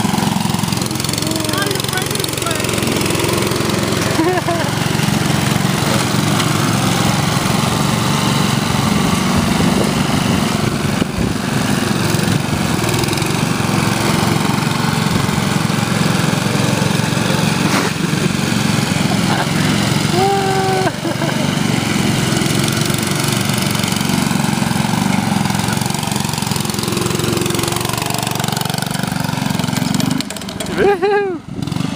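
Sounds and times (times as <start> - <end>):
lawn tractor engine running: 0.0 - 31.9.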